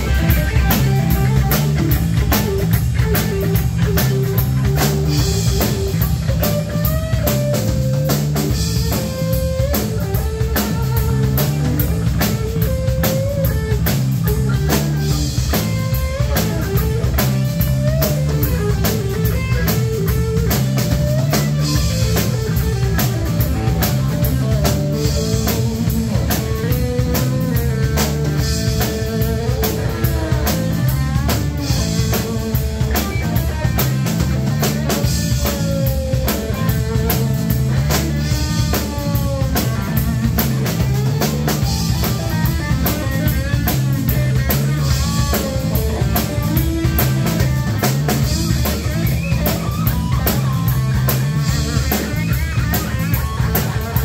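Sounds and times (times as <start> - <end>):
drum kit beat: 0.0 - 54.0
electric guitar solo: 0.0 - 54.0.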